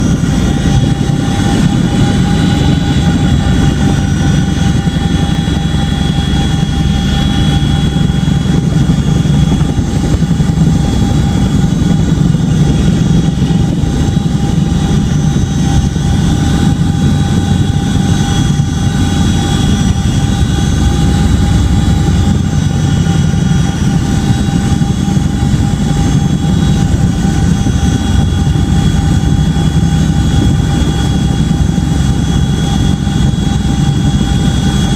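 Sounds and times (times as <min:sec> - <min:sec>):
helicopter engine whine: 0:00.0 - 0:34.9
helicopter rotor beat: 0:00.0 - 0:34.9.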